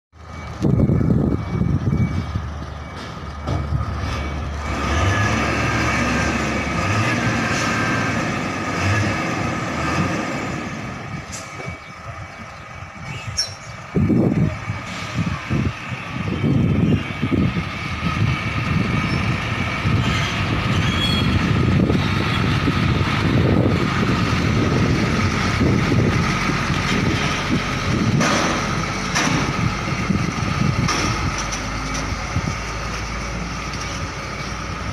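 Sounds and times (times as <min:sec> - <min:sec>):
diesel truck engines running: 0:00.2 - 0:34.9
truck engine rumble passing: 0:00.2 - 0:34.9.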